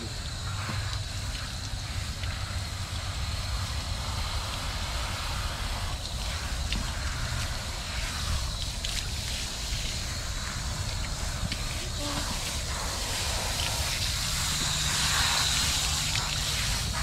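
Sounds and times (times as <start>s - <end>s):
hose nozzle spraying water: 0.0s - 17.0s
wind rumble on microphone: 0.0s - 17.0s.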